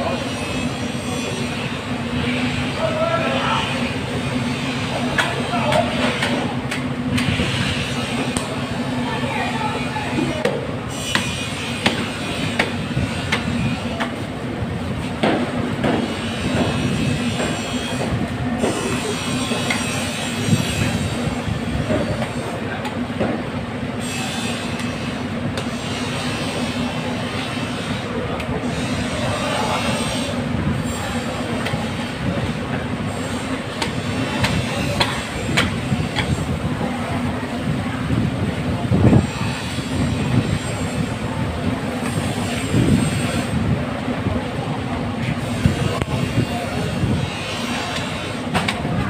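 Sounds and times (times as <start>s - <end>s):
machinery rumble and hum: 0.0s - 49.0s.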